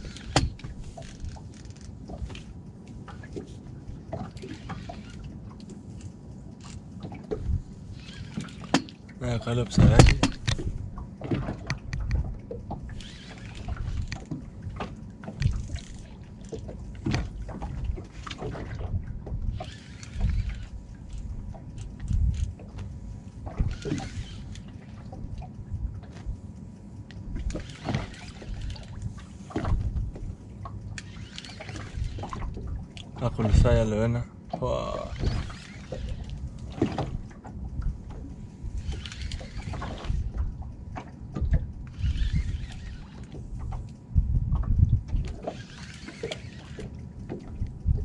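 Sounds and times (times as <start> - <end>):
water lapping against boat hull: 0.0 - 48.0.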